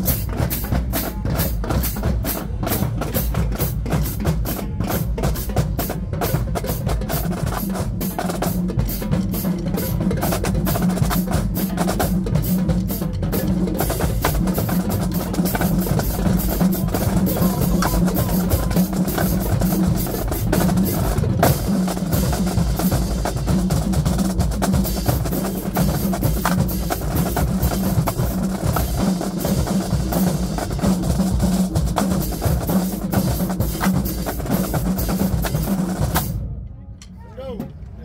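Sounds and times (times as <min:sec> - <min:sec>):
marching drumline cadence: 0:00.0 - 0:38.0.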